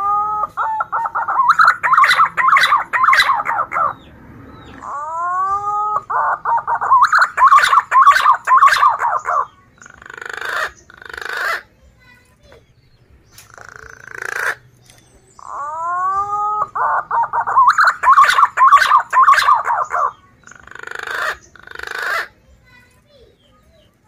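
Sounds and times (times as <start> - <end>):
pigeon whistled song: 0.0 - 4.0, 4.6 - 11.6, 13.3 - 22.3.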